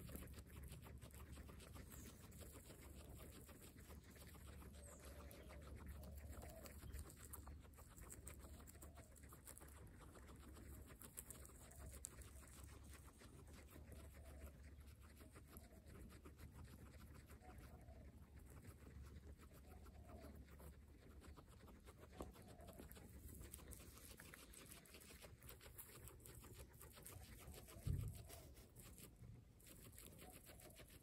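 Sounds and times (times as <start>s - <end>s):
guinea pigs chewing: 0.0s - 31.0s.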